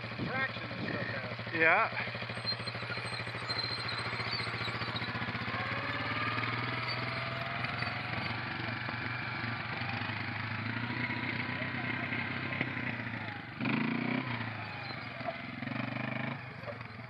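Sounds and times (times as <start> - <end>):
atv engines running: 0.0 - 17.0.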